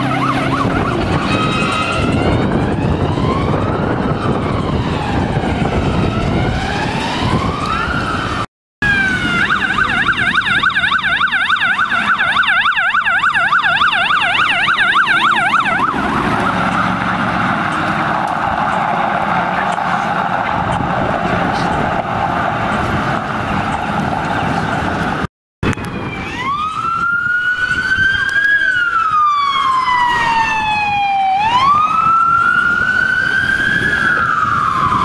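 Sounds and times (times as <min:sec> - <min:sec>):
police siren wailing and yelping: 0:00.0 - 0:35.0
street traffic noise: 0:00.0 - 0:35.0.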